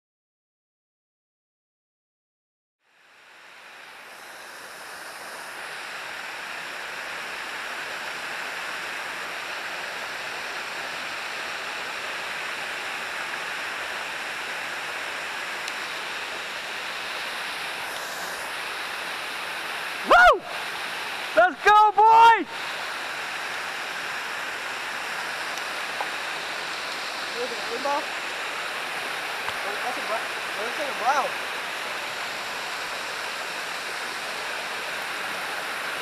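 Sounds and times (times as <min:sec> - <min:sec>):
small waterfall rushing: 0:02.8 - 0:36.0.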